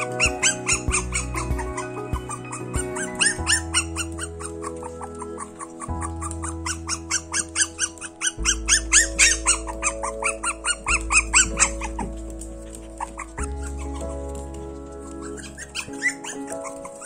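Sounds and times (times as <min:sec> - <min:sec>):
background music with held notes: 0:00.0 - 0:17.0
puppies whining and yipping: 0:00.0 - 0:17.0.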